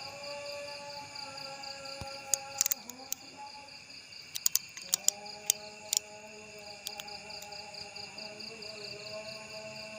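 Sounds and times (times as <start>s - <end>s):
fast pulsing insect trill: 0.0s - 9.9s
high insect buzz: 0.0s - 9.9s
long humming call: 0.0s - 9.9s.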